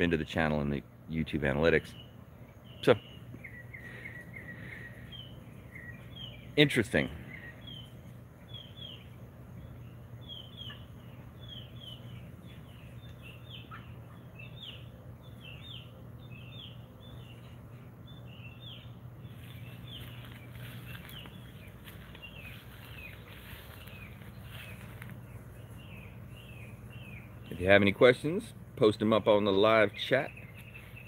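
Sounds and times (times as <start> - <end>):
bird chirping: 0.0 - 31.0
steady low hum: 0.0 - 31.0.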